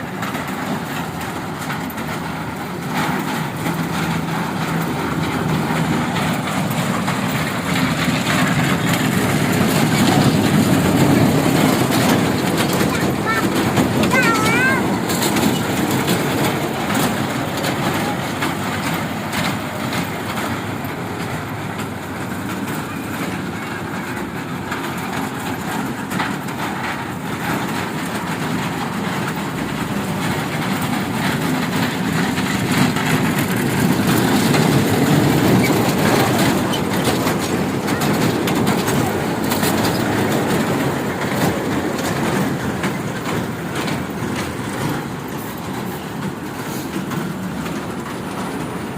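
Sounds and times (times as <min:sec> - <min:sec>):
train rumbling: 0:00.0 - 0:48.9
wheels clattering over rails: 0:00.0 - 0:48.9.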